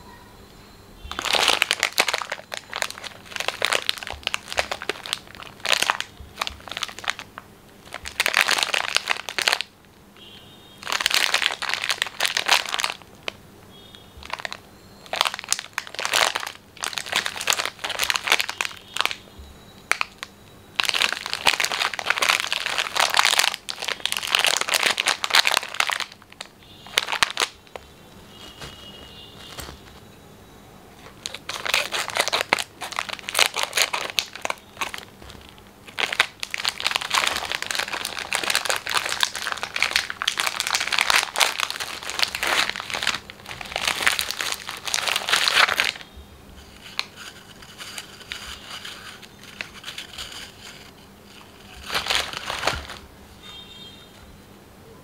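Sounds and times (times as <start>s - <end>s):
plastic wrapper crinkling: 1.0s - 9.8s, 10.8s - 19.2s, 19.8s - 30.1s, 31.0s - 53.1s.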